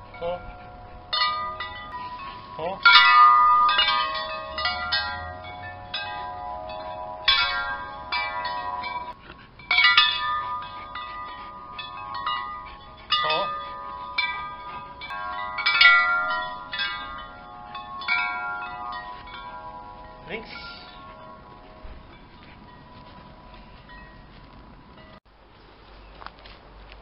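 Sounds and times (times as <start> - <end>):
metal wind chimes ringing: 0.0 - 25.2.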